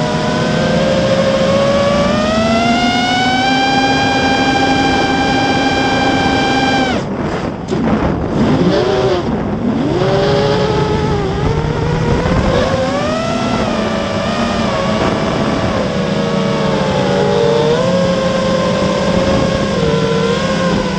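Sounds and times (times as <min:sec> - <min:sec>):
quadcopter motors whining: 0:00.0 - 0:20.9.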